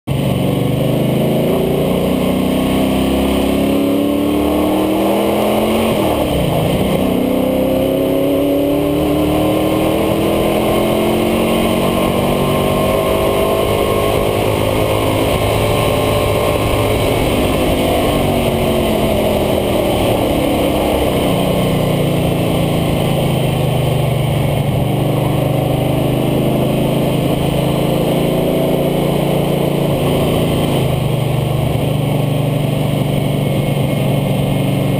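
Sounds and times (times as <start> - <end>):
road and wind noise: 0.1 - 34.9
truck engine revving: 0.2 - 34.9.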